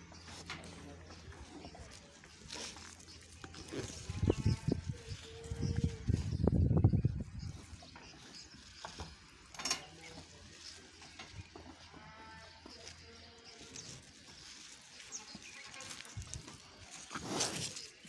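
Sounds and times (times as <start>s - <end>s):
quiet barn background: 0.0s - 18.0s.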